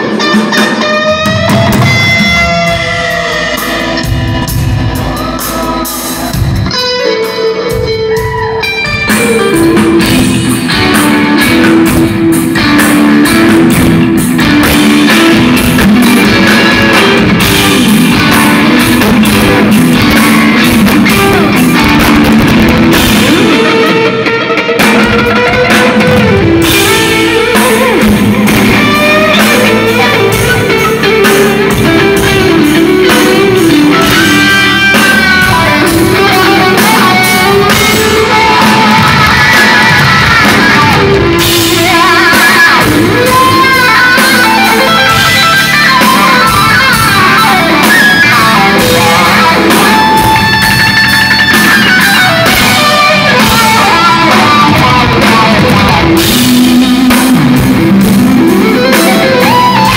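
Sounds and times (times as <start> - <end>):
bass guitar: 0.0 - 59.9
drums: 0.0 - 59.9
lead electric guitar melody: 0.0 - 59.9.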